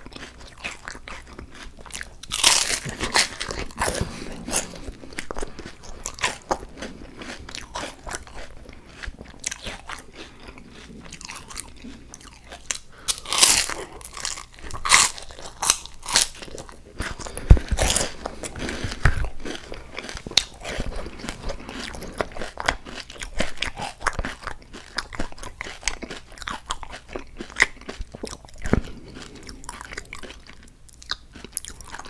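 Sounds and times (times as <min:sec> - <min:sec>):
person crunching and chewing food: 0:00.0 - 0:32.0.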